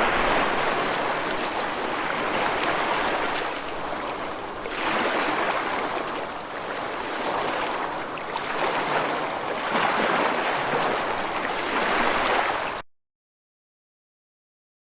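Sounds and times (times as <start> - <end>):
ocean waves washing onto shore: 0.0 - 12.8.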